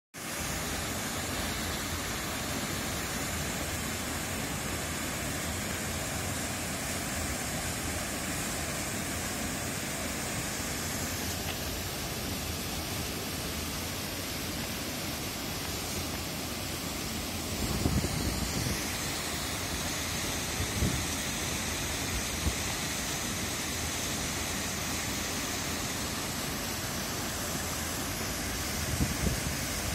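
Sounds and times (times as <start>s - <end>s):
waterfall rushing and splashing: 0.2s - 29.9s.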